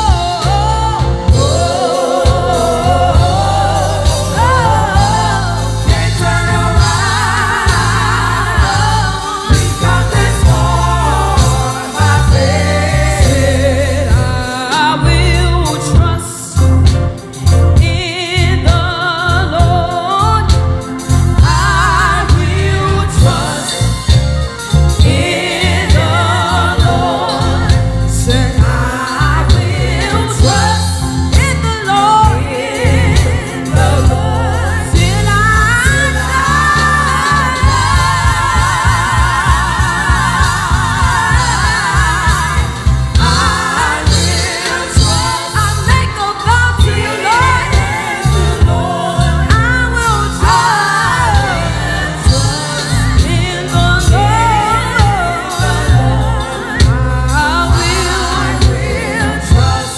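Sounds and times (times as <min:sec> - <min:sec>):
gospel singers into microphones: 0:00.0 - 0:59.9
instrumental accompaniment with bass: 0:00.0 - 0:59.9.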